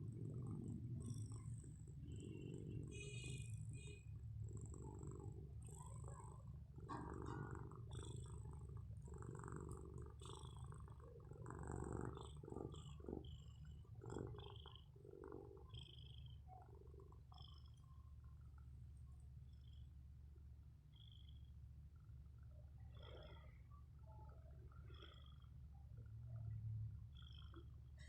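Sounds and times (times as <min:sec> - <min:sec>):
cat snoring softly: 0:00.0 - 0:28.0
low steady hum: 0:00.0 - 0:28.0.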